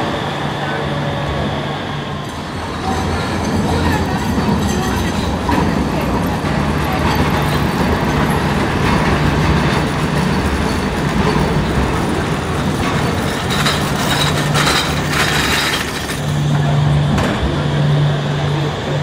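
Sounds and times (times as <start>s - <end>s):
tram passing on rails: 0.0s - 19.0s.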